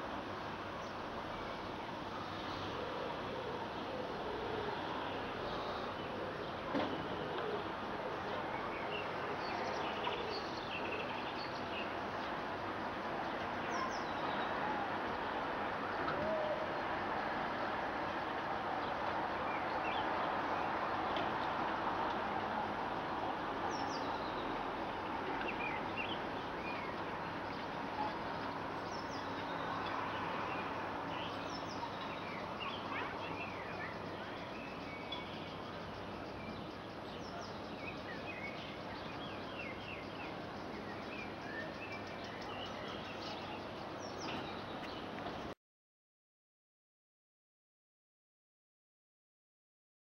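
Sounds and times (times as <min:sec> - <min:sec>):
distant traffic: 0:00.0 - 0:45.5.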